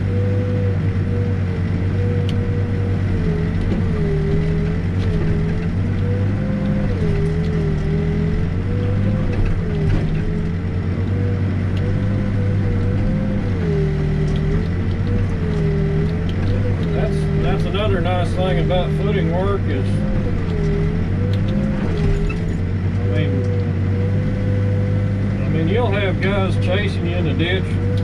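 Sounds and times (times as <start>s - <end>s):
diesel engine under load: 0.0s - 28.0s
hydraulic whine: 0.0s - 28.0s.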